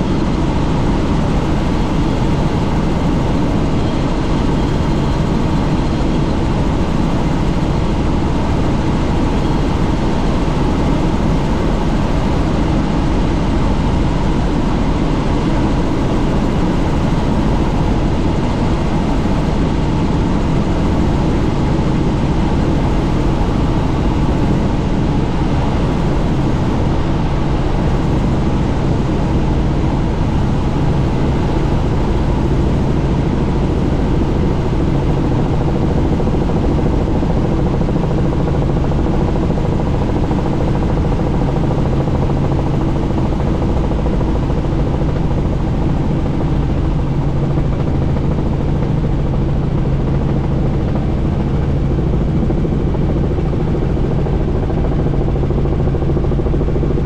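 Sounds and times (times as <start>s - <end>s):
helicopter engine and rotor noise: 0.0s - 57.0s.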